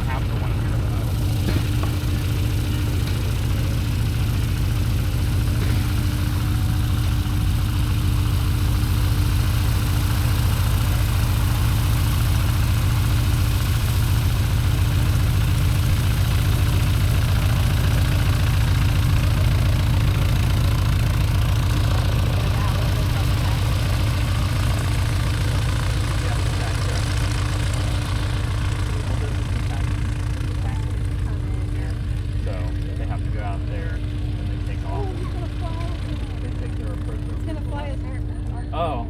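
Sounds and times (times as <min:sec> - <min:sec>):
model plane engine running: 0:00.0 - 0:39.0.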